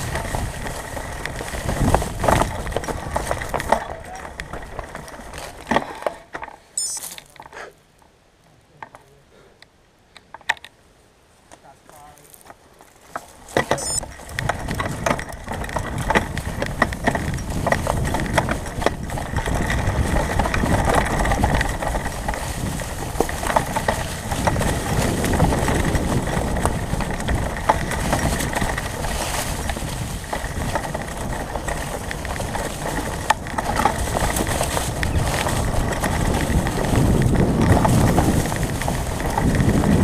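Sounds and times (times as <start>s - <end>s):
bike tyres rumbling on dirt: 0.0s - 7.4s, 11.8s - 40.0s
bike clicks and knocks: 0.0s - 7.6s, 10.2s - 10.8s, 12.3s - 40.0s.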